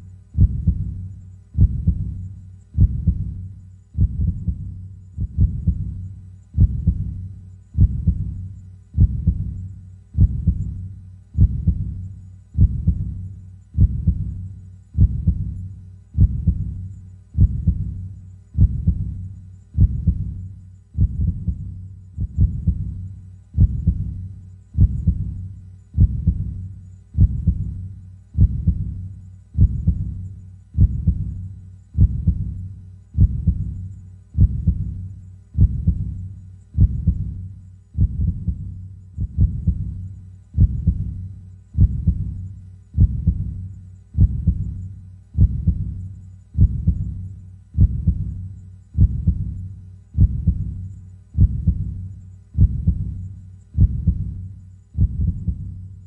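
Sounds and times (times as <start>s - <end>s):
heartbeat thumps: 0.4s - 55.9s.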